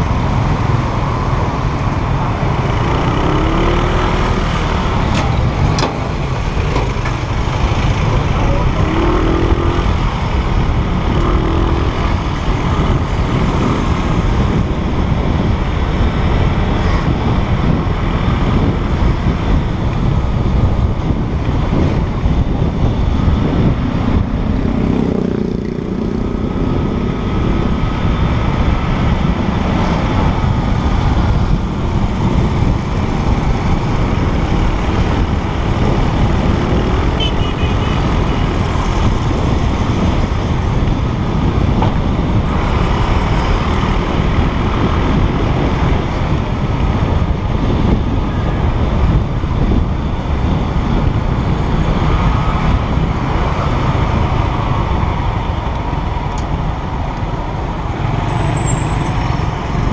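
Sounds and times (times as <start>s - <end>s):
wind rushing: 0.0s - 59.9s.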